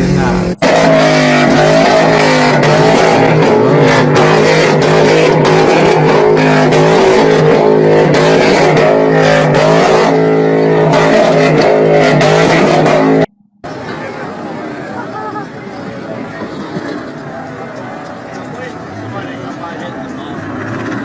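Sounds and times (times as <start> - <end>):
truck engine revving: 0.0 - 14.7, 16.0 - 21.0.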